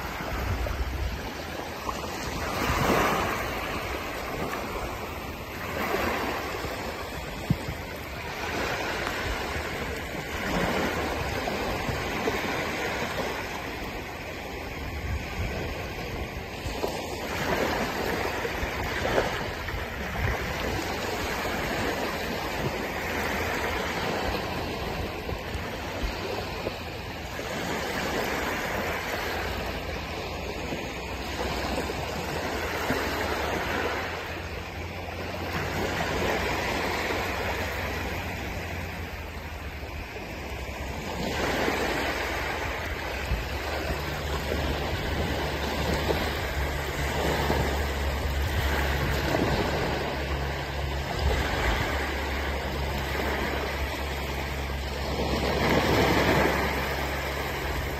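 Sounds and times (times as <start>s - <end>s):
small waves breaking on beach: 0.0s - 57.9s
steady low rumble: 0.0s - 57.9s.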